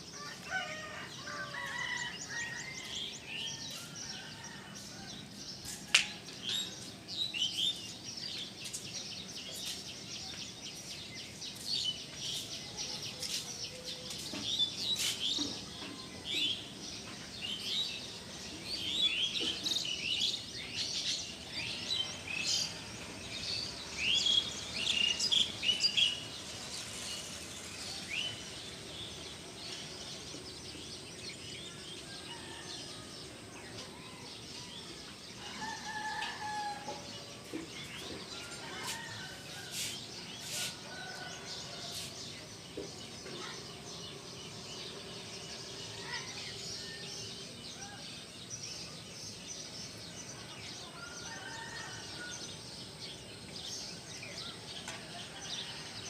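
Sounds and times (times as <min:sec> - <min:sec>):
faint outdoor background: 0:00.0 - 0:56.0
small birds chirping: 0:05.2 - 0:32.6, 0:33.6 - 0:56.0.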